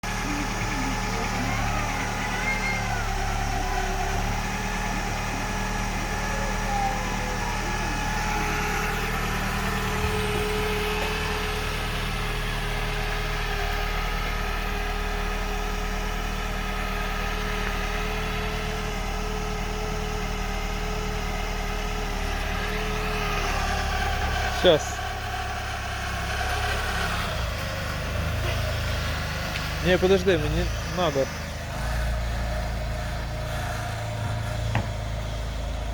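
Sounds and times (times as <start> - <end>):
car engine idling drone: 0.0 - 35.9.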